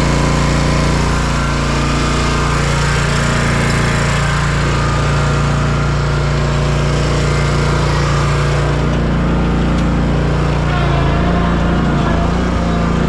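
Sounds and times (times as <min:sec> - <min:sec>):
riding mower engine running: 0:00.0 - 0:13.0.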